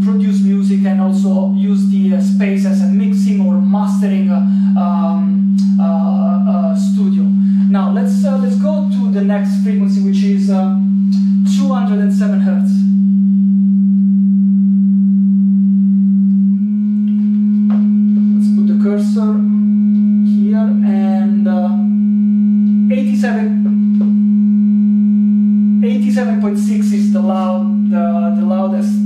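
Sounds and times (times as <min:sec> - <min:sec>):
loud sine test tone: 0:00.0 - 0:29.0.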